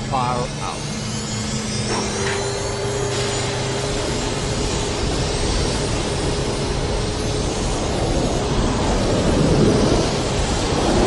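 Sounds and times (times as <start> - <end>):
jet engines roaring: 0.0 - 11.0
low hum: 0.0 - 11.0.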